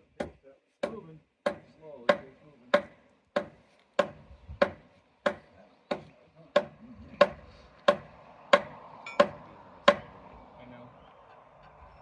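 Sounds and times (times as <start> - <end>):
hammer striking timber: 0.2 - 10.2.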